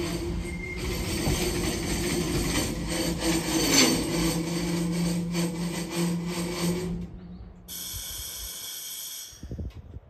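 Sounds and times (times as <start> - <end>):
steel wheels rasping on rails: 0.0 - 9.5.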